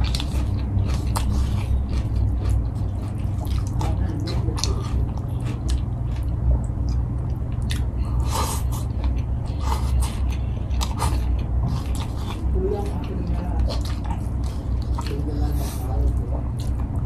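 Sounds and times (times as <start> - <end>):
chewing with wet smacks: 0.0 - 17.0
steady low hum: 0.0 - 17.0.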